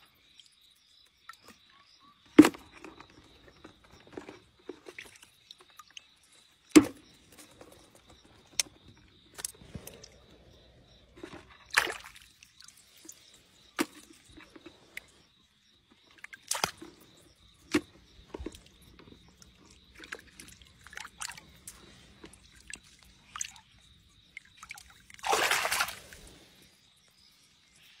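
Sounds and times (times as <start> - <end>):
splashing in shallow water: 2.4 - 15.2, 16.0 - 26.7.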